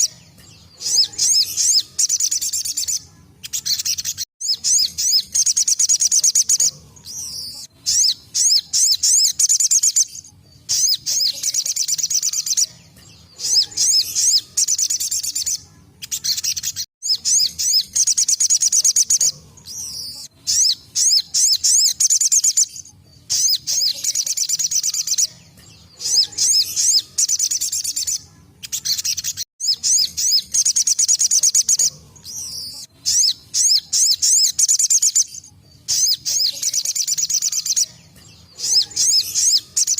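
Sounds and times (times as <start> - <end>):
bird singing fast repeated notes: 0.0 - 25.3, 26.0 - 39.9.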